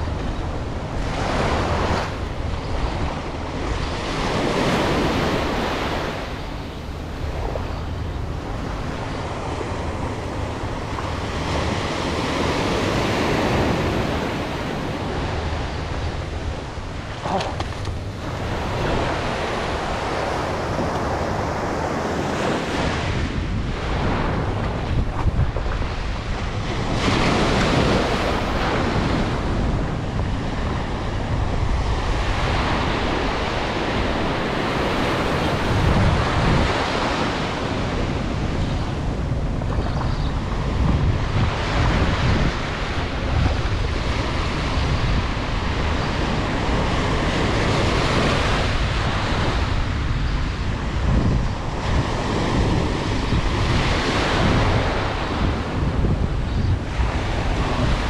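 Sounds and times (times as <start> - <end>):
ocean surf breaking on beach: 0.0 - 58.0
wind rumbling on microphone: 0.0 - 58.0.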